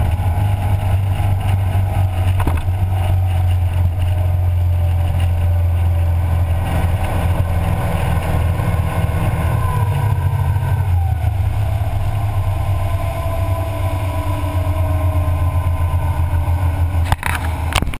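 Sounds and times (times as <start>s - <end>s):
powerboat engines droning: 0.0s - 17.9s.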